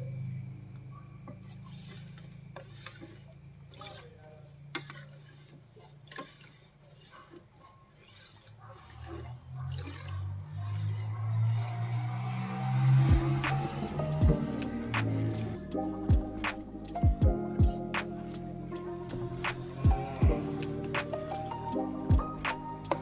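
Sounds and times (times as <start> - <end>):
batter sloshing: 1.3 - 23.0.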